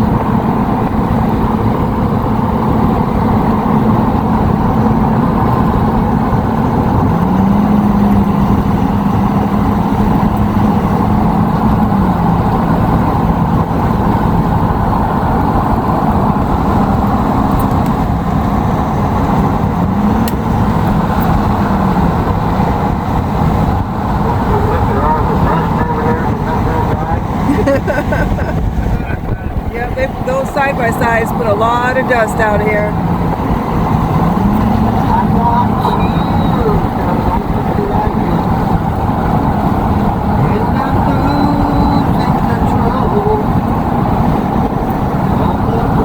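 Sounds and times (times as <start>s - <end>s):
vehicle road and engine noise: 0.0s - 46.0s.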